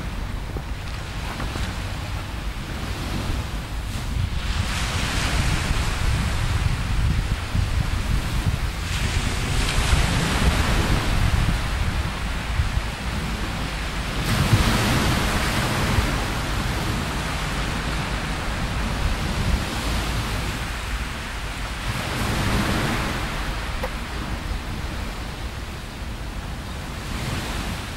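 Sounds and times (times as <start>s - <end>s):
small waves breaking: 0.0s - 6.6s, 7.4s - 27.9s
wind buffeting microphone: 0.0s - 27.9s.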